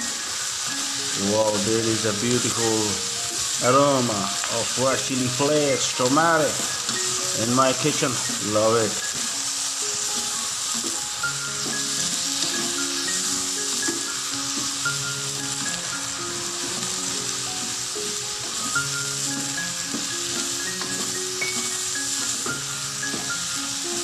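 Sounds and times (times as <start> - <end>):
soft background music: 0.0 - 24.0
vegetables sizzling in a pan: 0.0 - 24.0.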